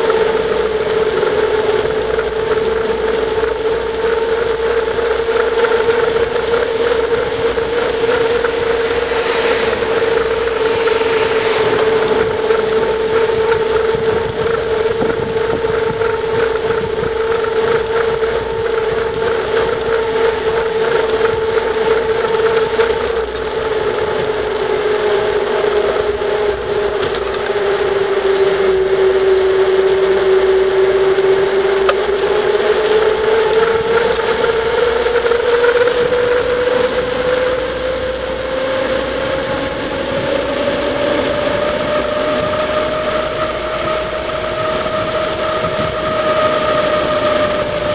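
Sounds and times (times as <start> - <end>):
bicycle tyres humming on asphalt: 0.0 - 47.9
wind rushing over microphone: 0.0 - 47.9.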